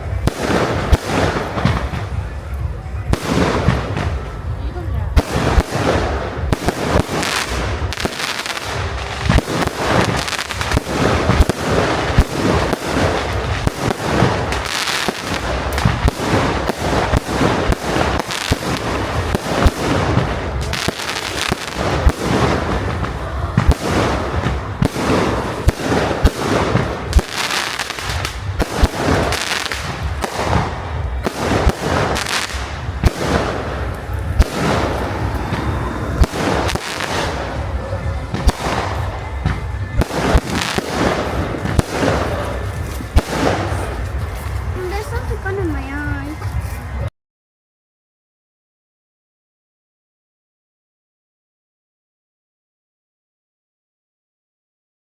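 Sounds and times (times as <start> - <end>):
fireworks bangs and crackles: 0.0 - 47.1.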